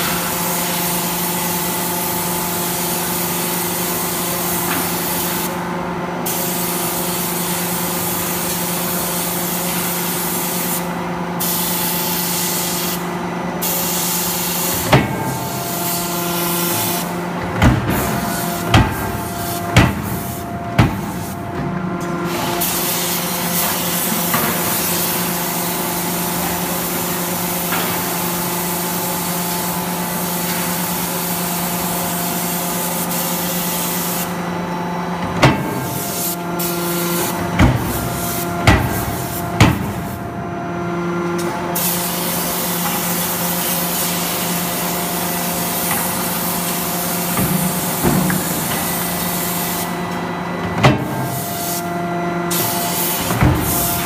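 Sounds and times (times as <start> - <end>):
machinery hiss and hum: 0.0 - 54.0.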